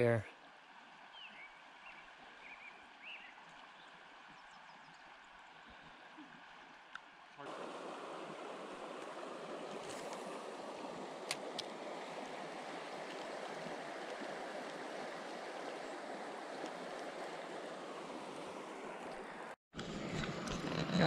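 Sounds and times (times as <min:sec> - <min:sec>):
river water flowing: 0:00.3 - 0:21.0.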